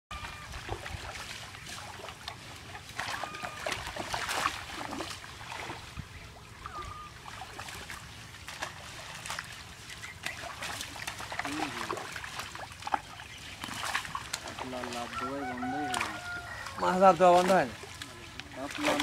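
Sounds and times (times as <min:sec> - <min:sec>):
water splashing and trickling: 0:00.1 - 0:19.0.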